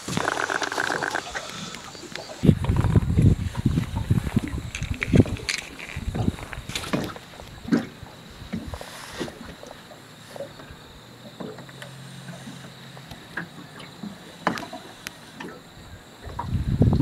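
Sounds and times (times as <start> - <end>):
water lapping at boat hull: 0.0 - 17.0.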